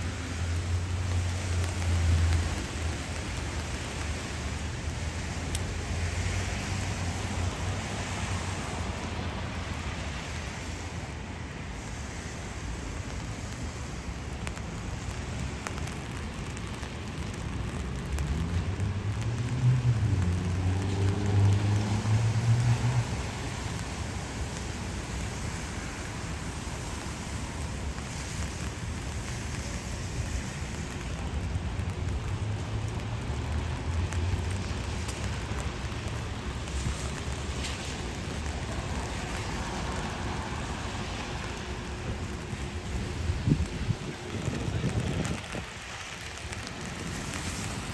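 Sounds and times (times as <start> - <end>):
low traffic rumble: 0.0 - 47.9
rain on pavement: 0.0 - 47.9.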